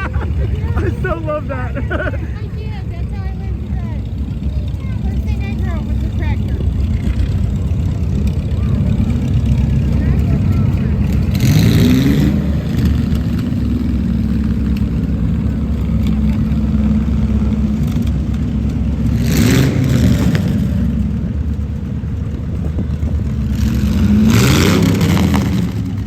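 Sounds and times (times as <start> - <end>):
tractor engines running: 0.0 - 26.0.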